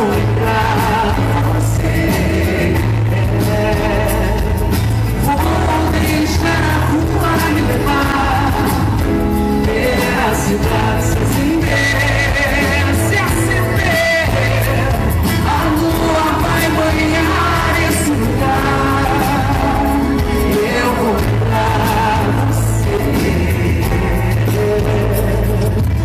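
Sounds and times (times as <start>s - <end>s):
bass line: 0.0s - 26.0s
live pop band playing: 0.0s - 26.0s
person singing: 0.0s - 26.0s.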